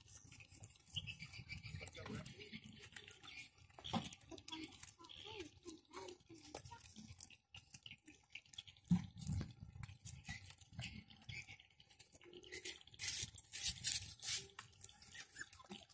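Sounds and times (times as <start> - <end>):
puppies chewing and lapping: 0.0 - 15.9.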